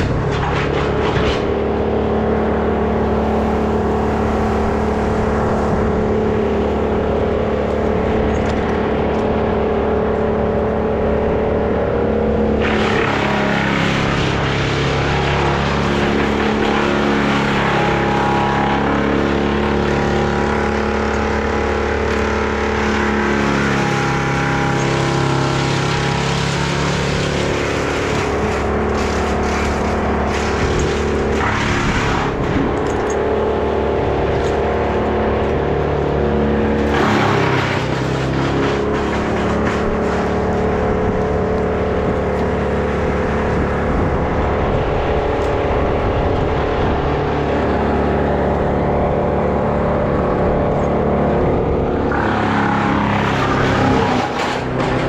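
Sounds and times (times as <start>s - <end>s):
chainsaw running: 0.0s - 44.2s, 47.2s - 55.0s.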